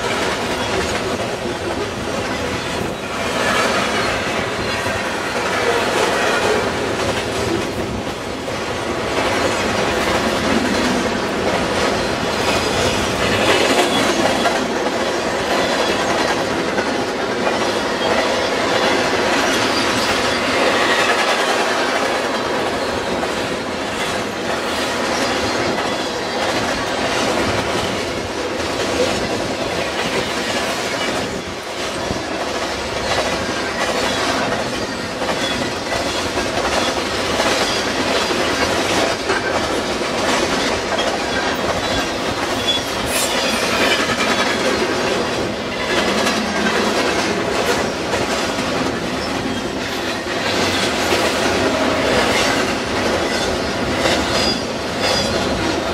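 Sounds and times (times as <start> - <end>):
freight train wheels clattering: 0.0 - 55.9.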